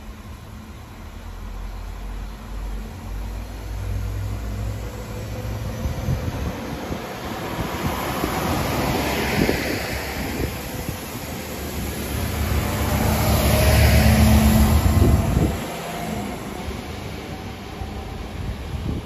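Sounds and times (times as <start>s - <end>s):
diesel engine rumble: 0.0s - 19.0s
train wheels on rails: 2.0s - 19.0s.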